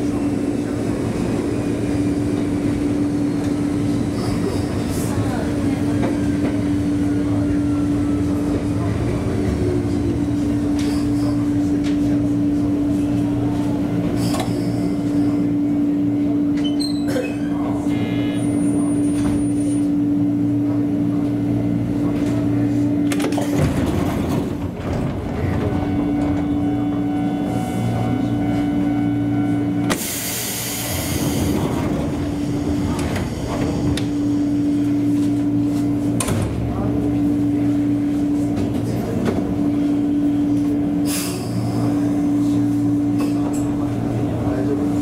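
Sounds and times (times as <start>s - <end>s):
electric train hum: 0.0s - 45.0s.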